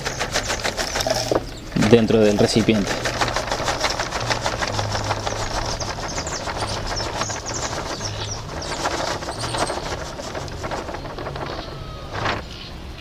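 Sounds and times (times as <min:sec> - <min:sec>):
dry leaves pattering into plastic tub: 0:00.0 - 0:12.8.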